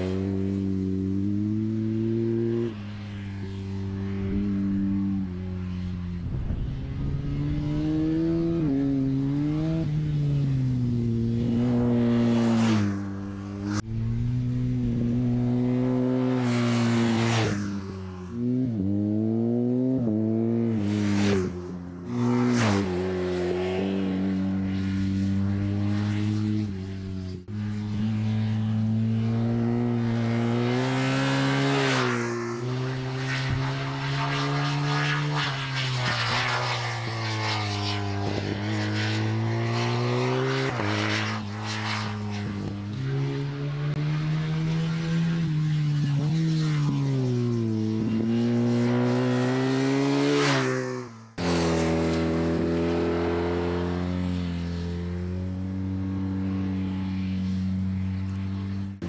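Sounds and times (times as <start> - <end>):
motorcycle engine revving: 0.0 - 59.0
motorcycle rushing past: 0.0 - 59.0.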